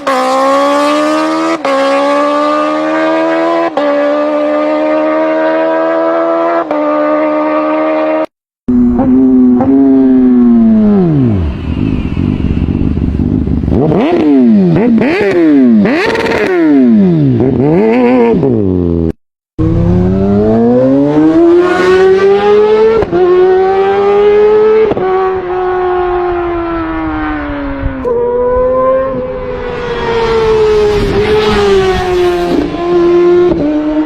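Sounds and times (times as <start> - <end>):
motorcycle accelerating: 0.0 - 34.0
motorcycle engine revving: 0.0 - 34.0.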